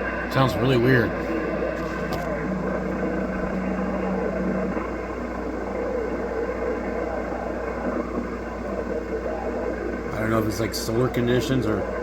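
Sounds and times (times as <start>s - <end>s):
garbled radio static: 0.0s - 12.0s.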